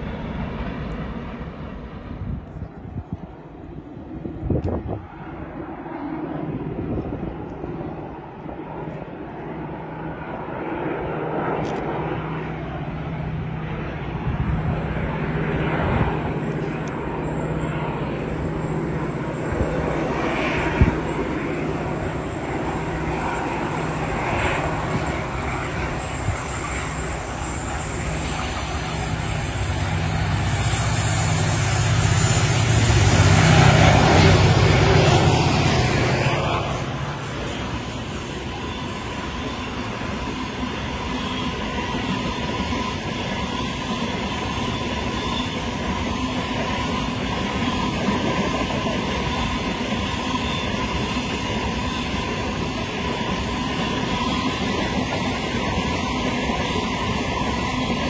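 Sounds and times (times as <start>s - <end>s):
freight locomotive engine drone: 0.0s - 58.0s.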